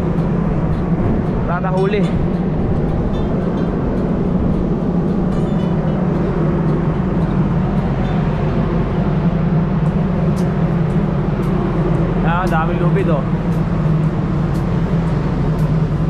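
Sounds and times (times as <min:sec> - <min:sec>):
ship machinery drone: 0:00.0 - 0:16.0.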